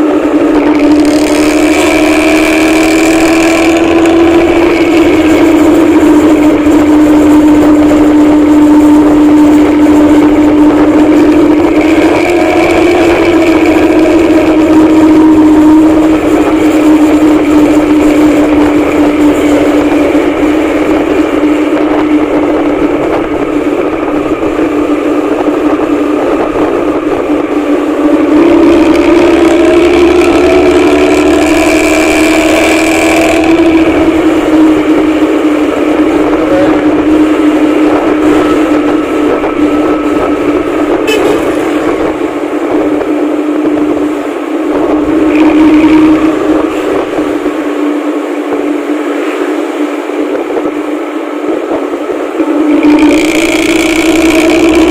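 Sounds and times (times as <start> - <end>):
road noise: 0.0 - 54.9
vehicle engine running: 0.0 - 54.9.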